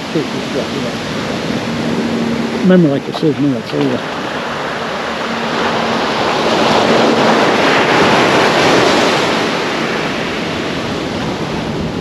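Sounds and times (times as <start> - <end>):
small waves washing up beach: 0.0 - 12.0.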